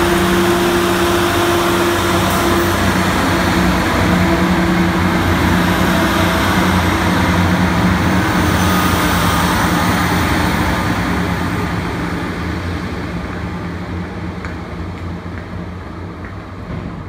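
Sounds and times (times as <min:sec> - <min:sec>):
diesel engine drone: 0:00.0 - 0:17.0
train wheels rumbling on rail: 0:00.0 - 0:17.0.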